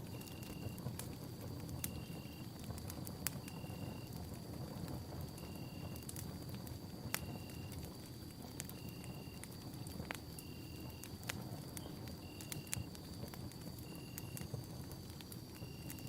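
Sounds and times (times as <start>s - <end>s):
campfire rushing: 0.0s - 16.0s
wood crackling and popping: 0.0s - 16.0s.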